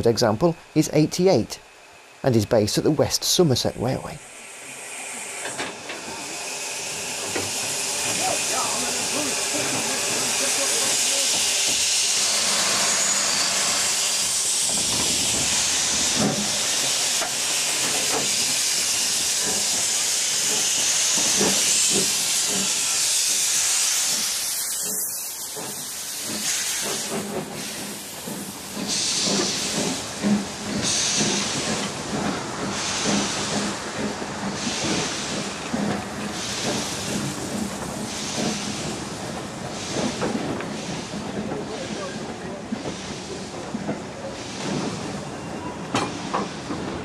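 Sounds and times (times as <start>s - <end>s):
steam locomotive hissing: 0.0s - 47.0s
slow locomotive exhaust beats: 4.0s - 47.0s.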